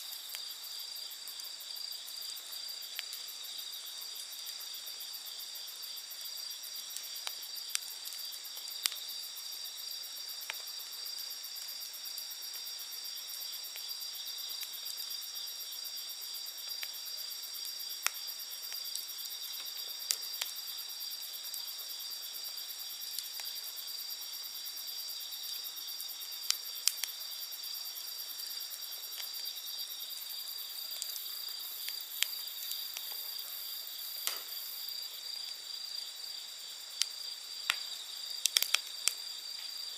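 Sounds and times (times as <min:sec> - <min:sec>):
campfire crackling: 0:00.0 - 0:39.9
night insects chirping: 0:00.0 - 0:39.9.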